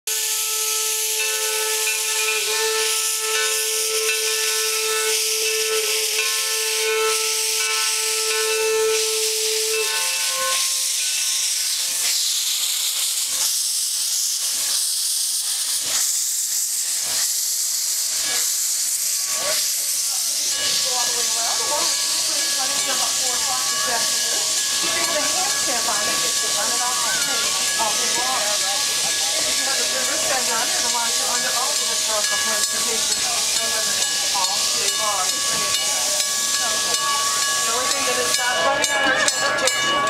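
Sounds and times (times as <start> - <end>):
locomotive exhaust chuffs: 0.1 - 40.0
steam hissing: 0.1 - 40.0
steam whistle: 0.1 - 40.0.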